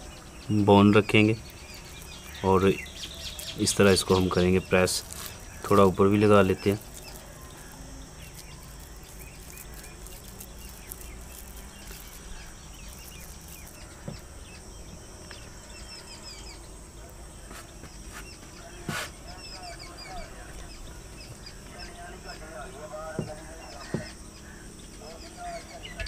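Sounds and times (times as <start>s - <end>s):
high-pitched insect hum: 0.0s - 26.0s
small birds chirping: 0.0s - 26.0s.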